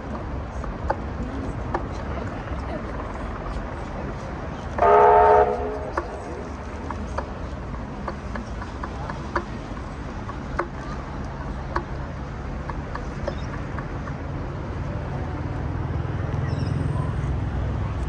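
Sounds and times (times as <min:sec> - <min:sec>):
murmur of crowd: 0:00.0 - 0:18.0.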